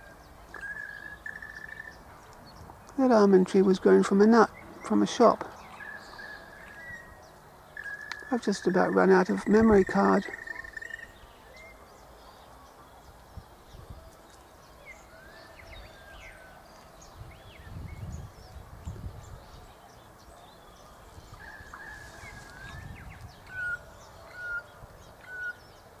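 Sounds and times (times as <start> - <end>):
wild birds chirping: 0.0 - 26.0.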